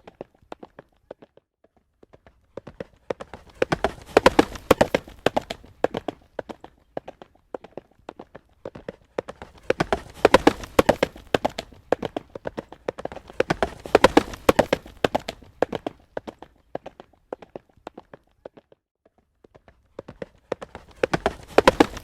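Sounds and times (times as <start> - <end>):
horse hooves trotting on road: 0.0 - 22.0.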